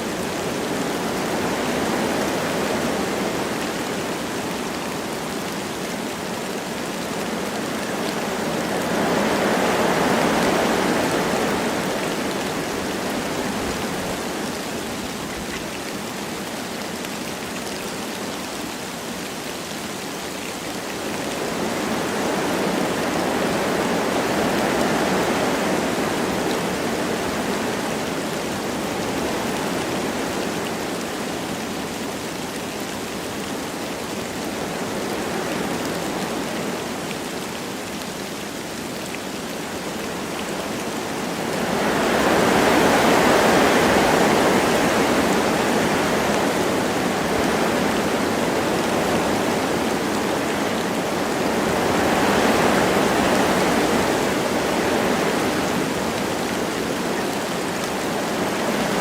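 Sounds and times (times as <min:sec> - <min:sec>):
light rain falling: 0:00.0 - 0:59.0
wind blowing through trees: 0:00.0 - 0:59.0.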